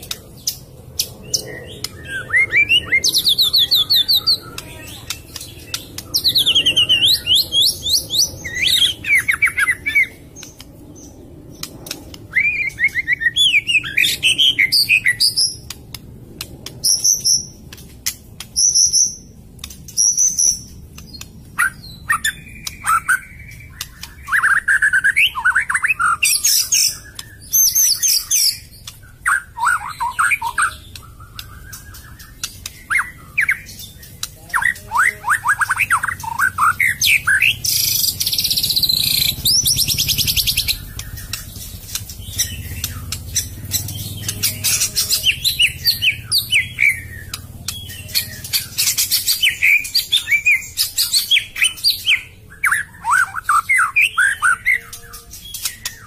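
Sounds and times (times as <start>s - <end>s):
bird singing trills and whistles: 0.0s - 15.8s, 16.4s - 56.0s.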